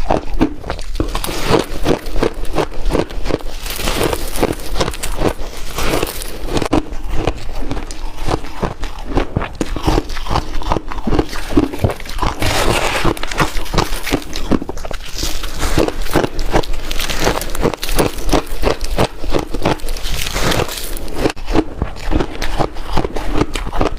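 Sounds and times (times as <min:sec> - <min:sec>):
person chewing ice: 0:00.0 - 0:23.9.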